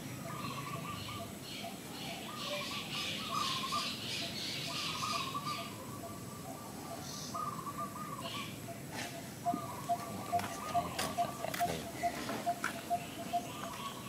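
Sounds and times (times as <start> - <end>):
birds whistling: 0.2 - 14.0.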